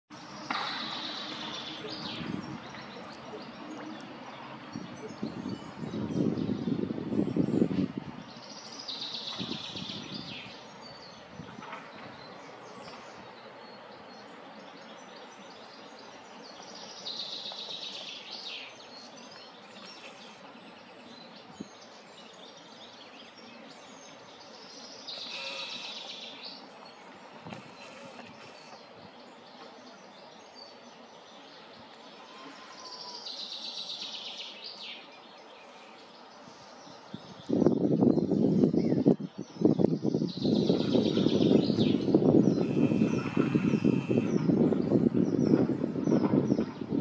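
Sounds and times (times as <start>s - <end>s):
songbird singing: 0.1s - 47.0s.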